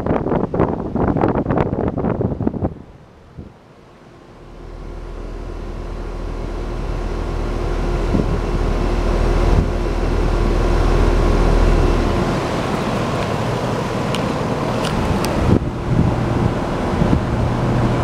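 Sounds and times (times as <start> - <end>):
air conditioner unit humming: 2.2 - 18.0.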